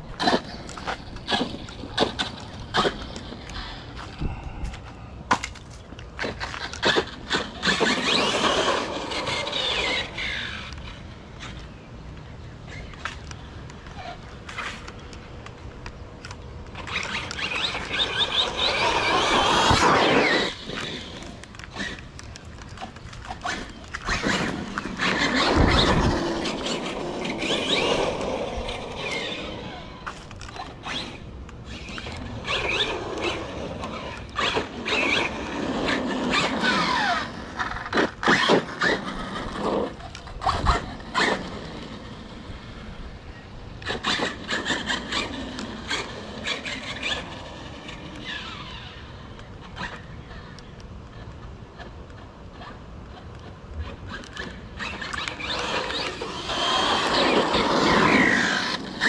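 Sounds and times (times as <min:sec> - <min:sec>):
toy car electric motor whining: 0:00.1 - 0:03.8, 0:06.2 - 0:11.7, 0:16.7 - 0:51.2, 0:52.5 - 0:59.0.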